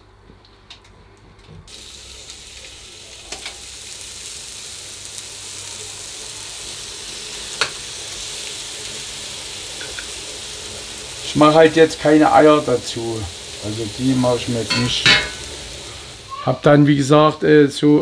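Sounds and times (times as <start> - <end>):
chicken sizzling on a grill: 1.7 - 18.0.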